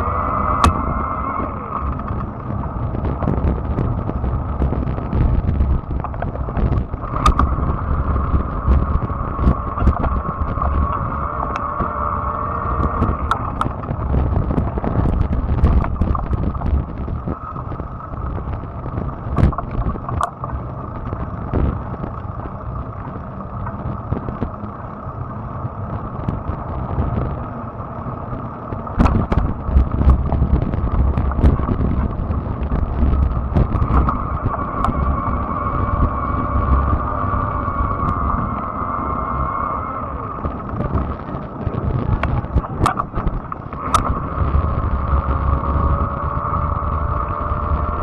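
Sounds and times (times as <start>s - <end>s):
electric bike high whine: 0.0s - 48.0s
tyres rumbling: 0.0s - 48.0s
wind buffeting microphone: 0.0s - 48.0s.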